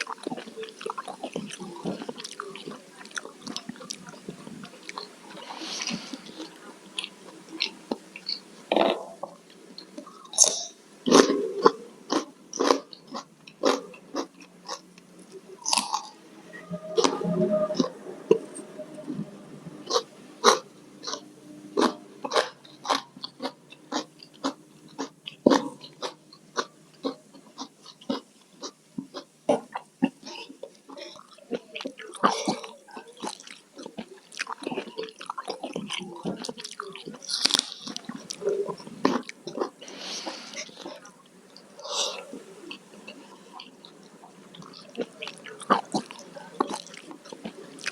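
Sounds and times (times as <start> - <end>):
chewing crunchy food: 0.0 - 16.1, 21.8 - 47.9.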